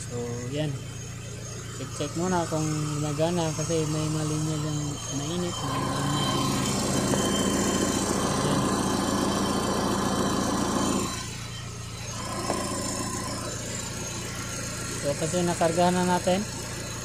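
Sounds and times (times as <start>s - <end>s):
ac compressor running: 0.0s - 17.0s
car engine idling: 0.0s - 17.0s.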